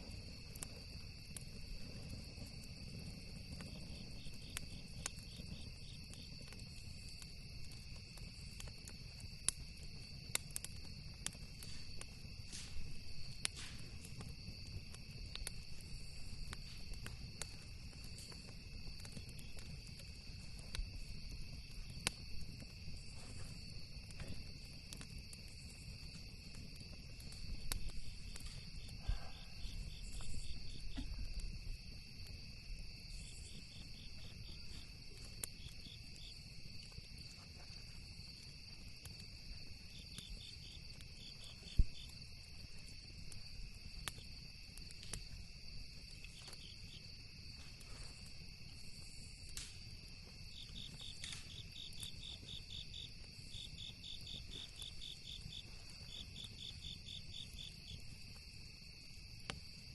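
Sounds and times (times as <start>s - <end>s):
campfire popping and crackling: 0.0s - 59.9s
cricket chirps: 0.0s - 59.9s
insects trilling: 0.0s - 59.9s.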